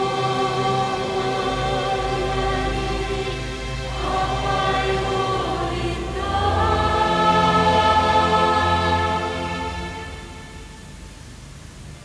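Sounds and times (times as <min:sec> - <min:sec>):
mixed choir singing chords: 0:00.0 - 0:11.2.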